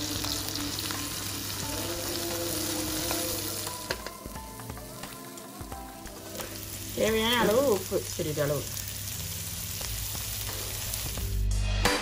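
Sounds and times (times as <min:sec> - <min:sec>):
vegetables sizzling in hot oil: 0:00.0 - 0:11.4.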